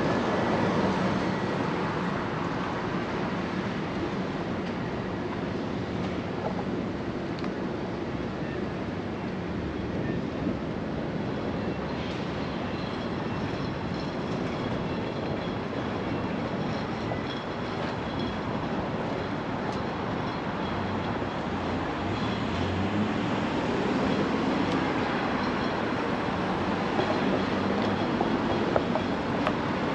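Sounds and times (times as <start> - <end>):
busy road traffic: 0.0 - 29.9.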